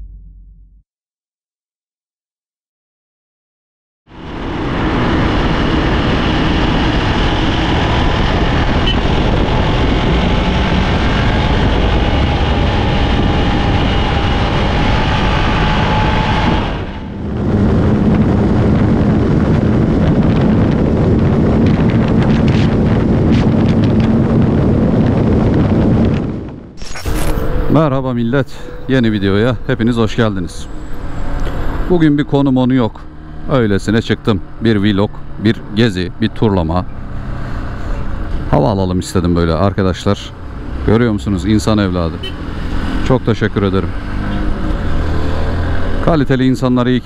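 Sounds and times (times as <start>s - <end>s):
wind rushing over microphone: 4.1s - 47.0s.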